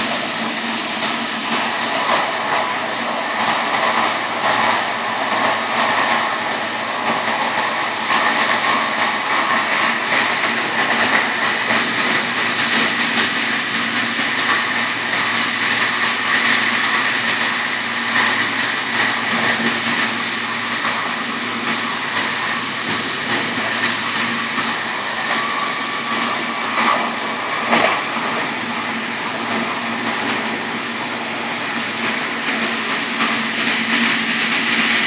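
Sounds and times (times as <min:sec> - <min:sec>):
steady whine: 0:00.0 - 0:35.0
wheels rushing on rail: 0:00.0 - 0:35.0.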